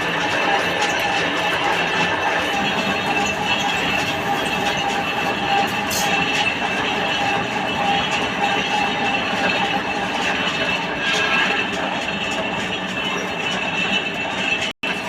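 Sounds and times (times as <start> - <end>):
high-pitched whine: 0.0 - 15.0
lathe running: 0.0 - 15.0.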